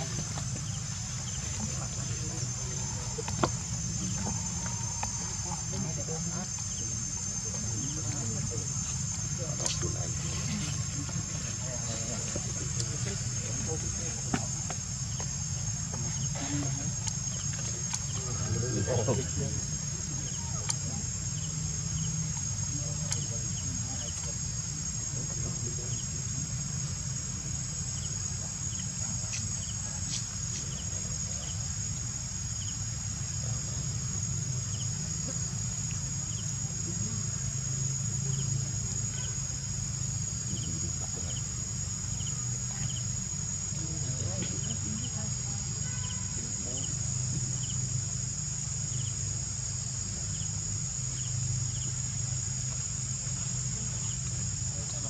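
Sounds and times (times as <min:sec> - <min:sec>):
high-pitched insect drone: 0:00.0 - 0:55.0
low steady hum: 0:00.0 - 0:55.0.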